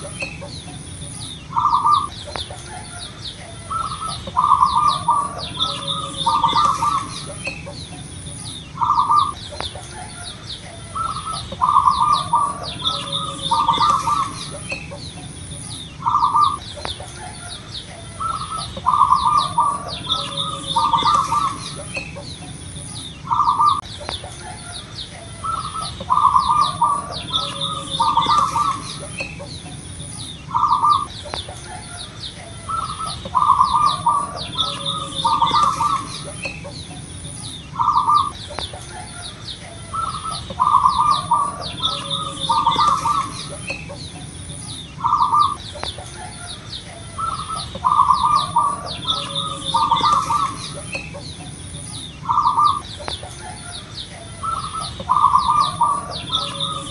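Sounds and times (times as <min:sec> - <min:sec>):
dove cooing: 0:00.0 - 0:56.9
small birds chirping: 0:00.0 - 0:56.9.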